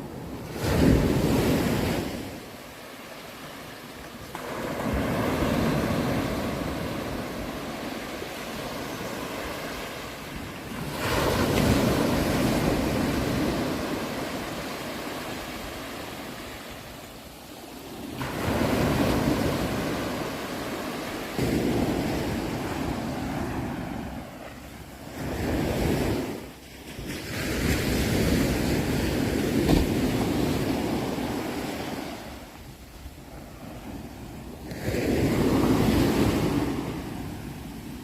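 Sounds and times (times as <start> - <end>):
sea waves breaking on shore: 0.0 - 38.0.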